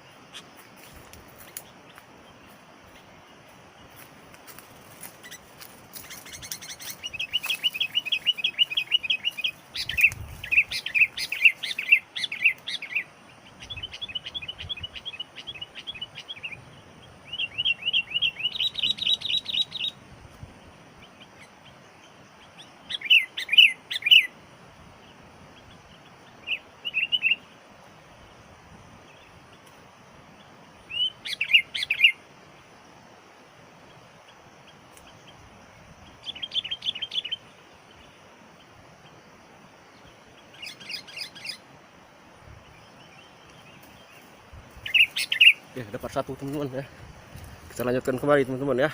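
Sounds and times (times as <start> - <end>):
bulbuls chirping: 0.0 - 33.1, 33.7 - 48.9.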